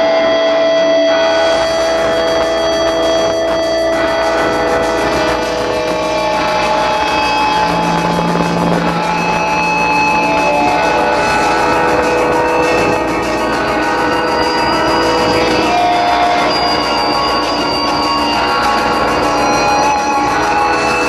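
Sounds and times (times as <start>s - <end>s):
live band with sustained notes: 0.0s - 21.0s.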